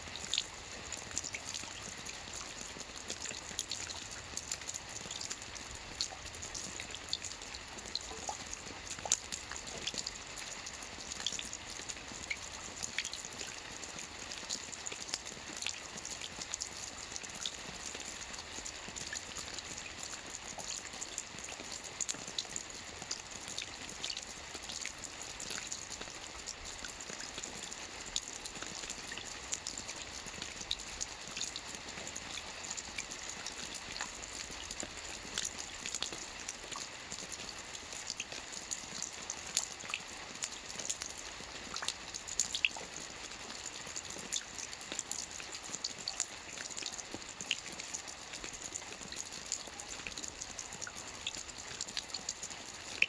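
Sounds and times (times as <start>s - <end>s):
soft rain on a roof: 0.0s - 53.0s.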